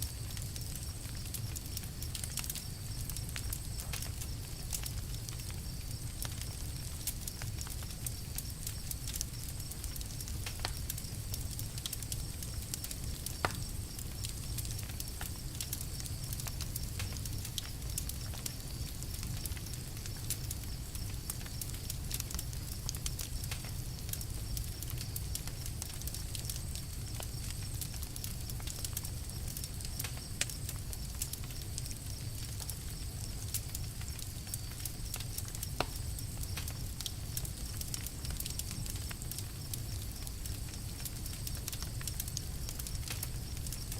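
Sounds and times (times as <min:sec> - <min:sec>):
campfire crackling: 0:00.0 - 0:43.9.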